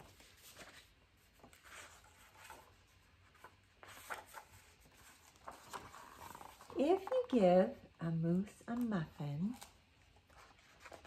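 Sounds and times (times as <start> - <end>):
paper pages rustling: 0.0 - 7.8, 8.7 - 11.0.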